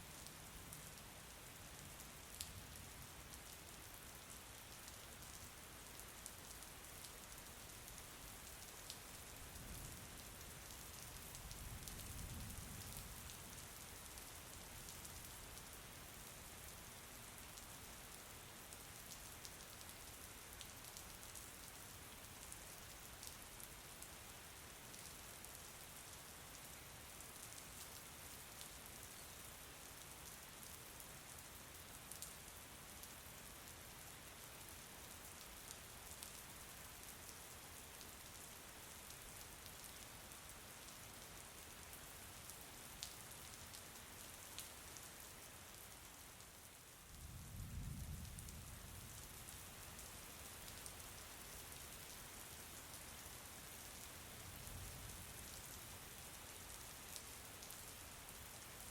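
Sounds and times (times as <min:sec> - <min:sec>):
rain pattering: 0:00.1 - 0:58.9.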